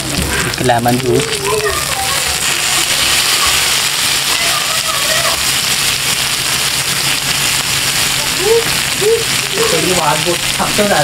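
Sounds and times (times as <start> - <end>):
chicken sizzling on iron griddle: 0.0 - 11.0.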